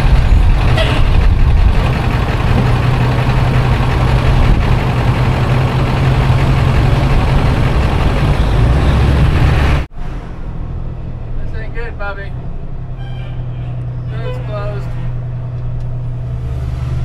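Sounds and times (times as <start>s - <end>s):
road and wind noise: 0.0s - 17.0s
vehicle engine droning: 0.0s - 17.0s.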